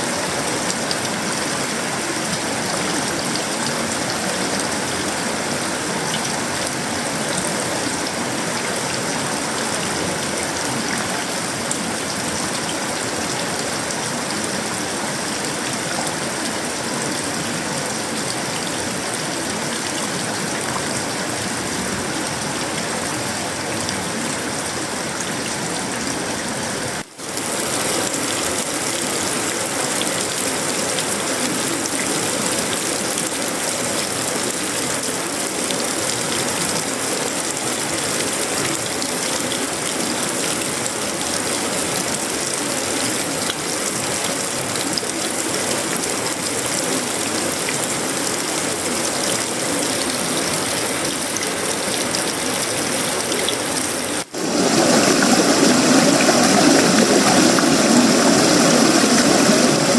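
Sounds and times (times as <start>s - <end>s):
rain on a metal roof and leaves: 0.0s - 59.9s.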